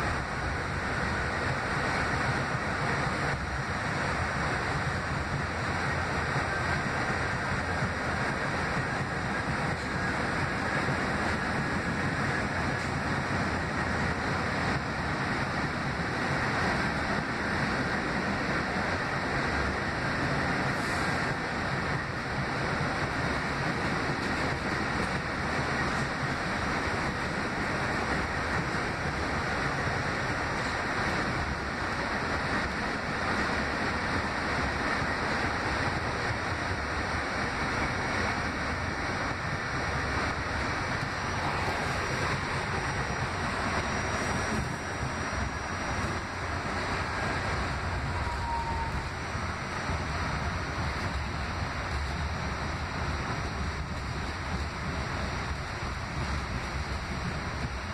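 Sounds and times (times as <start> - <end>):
subway car wheels on rails: 0.0 - 57.9.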